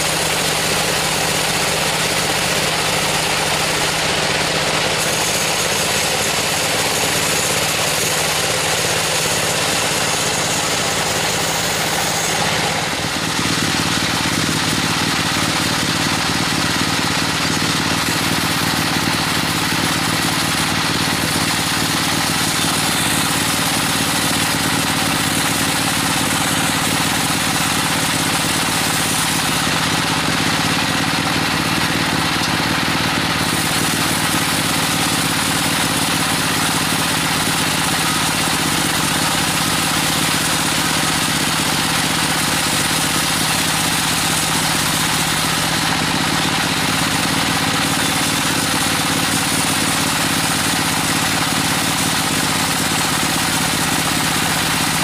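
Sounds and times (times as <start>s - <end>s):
saw blade hissing through log: 0.0s - 55.0s.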